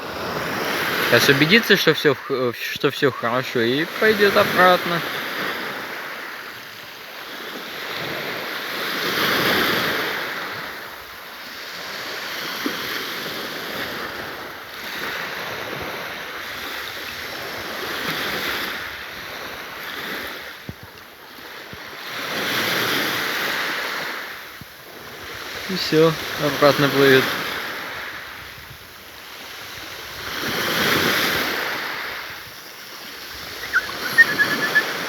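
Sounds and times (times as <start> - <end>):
sea waves washing onto shore: 0.0 - 35.0.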